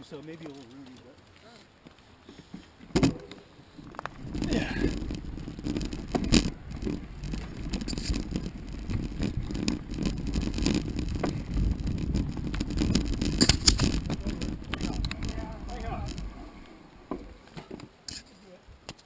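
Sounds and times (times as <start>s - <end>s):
bike tyres rumbling on dirt: 0.0s - 18.0s
bike rattling and knocking: 2.4s - 17.9s.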